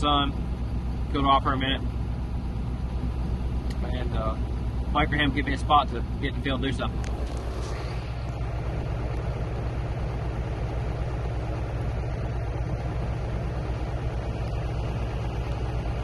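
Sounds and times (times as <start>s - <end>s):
air conditioning blowing: 0.0s - 16.0s
tractor diesel engine idling: 0.0s - 16.0s.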